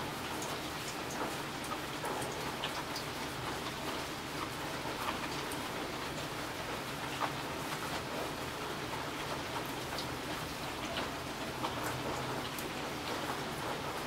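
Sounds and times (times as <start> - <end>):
rain on a hard surface: 0.0 - 14.0.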